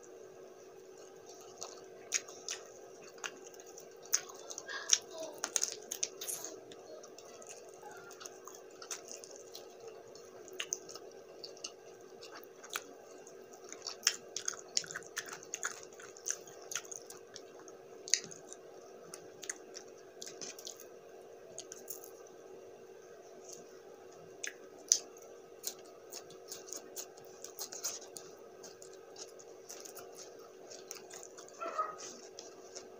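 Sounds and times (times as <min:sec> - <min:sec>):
steady low hum: 0:00.0 - 0:32.9
mouth chewing: 0:00.9 - 0:20.9, 0:24.4 - 0:32.9.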